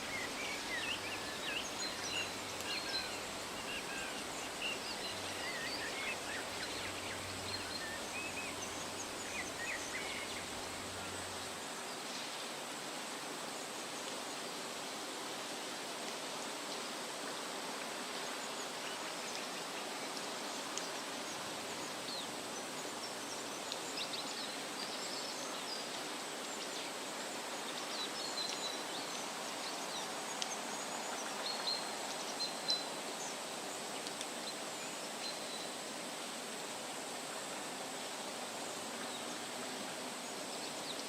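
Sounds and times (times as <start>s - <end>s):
wind rustling leaves: 0.0s - 41.0s.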